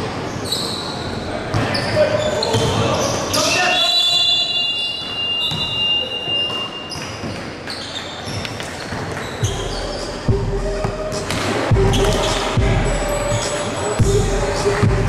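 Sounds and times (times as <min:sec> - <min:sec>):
echoing gym noise: 0:00.0 - 0:15.0.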